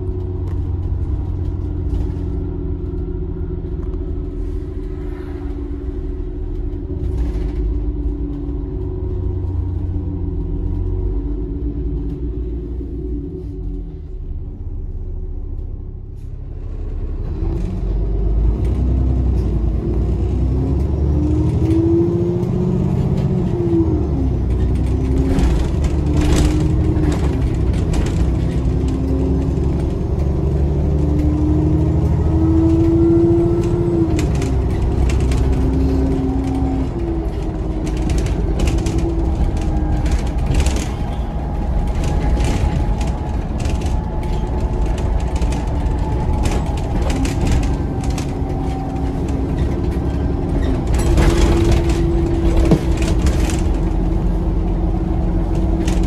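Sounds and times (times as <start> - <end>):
low rumble: 0.0 - 22.0, 22.6 - 56.0
bus engine accelerating: 0.0 - 56.0.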